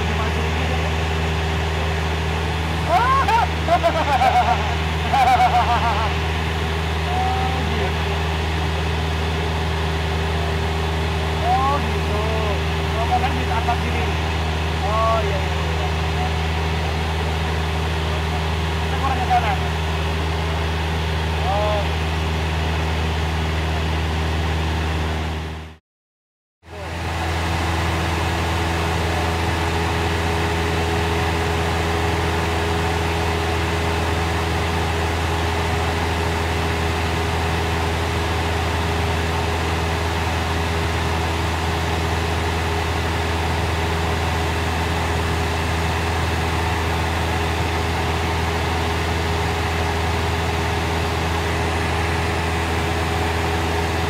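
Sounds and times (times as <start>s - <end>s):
propeller plane engine droning: 0.0s - 25.8s, 26.6s - 54.0s.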